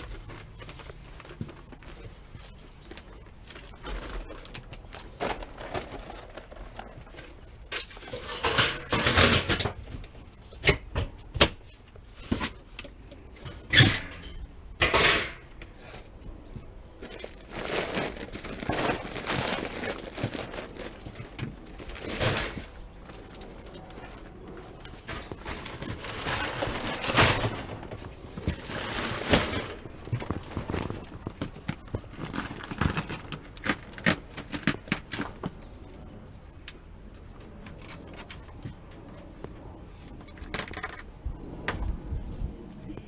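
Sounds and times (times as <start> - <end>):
rustling and scraping: 0.0 - 43.0.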